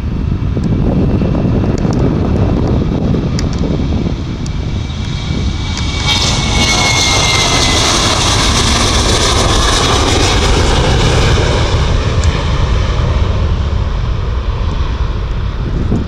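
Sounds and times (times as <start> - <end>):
high engine whine: 0.0 - 16.0
jet engines passing close: 0.0 - 16.0.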